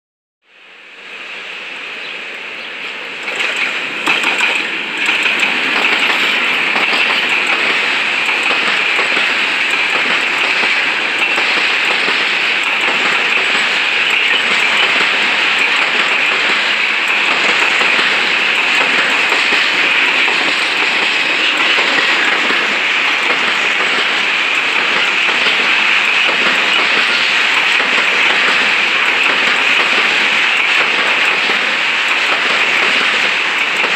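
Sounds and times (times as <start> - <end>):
rush of train wheels on rail: 0.5 - 33.9
locomotive clacks: 2.8 - 33.9.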